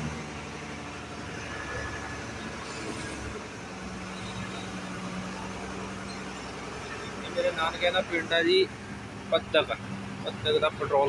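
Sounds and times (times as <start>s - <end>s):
truck diesel engine hum: 0.0s - 11.0s.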